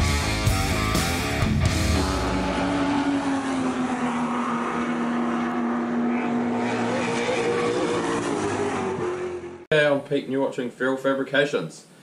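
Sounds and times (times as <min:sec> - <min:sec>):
racing car engine running: 0:00.0 - 0:09.7.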